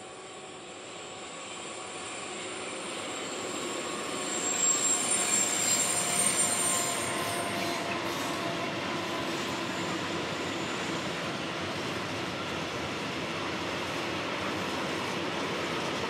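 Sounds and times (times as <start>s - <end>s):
freight train passing: 0.0s - 16.0s
thin high locomotive tone: 0.0s - 16.0s.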